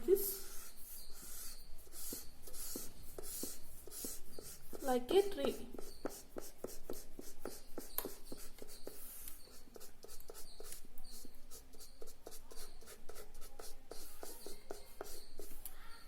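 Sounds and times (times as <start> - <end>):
pen scratching on paper: 0.2 - 15.6.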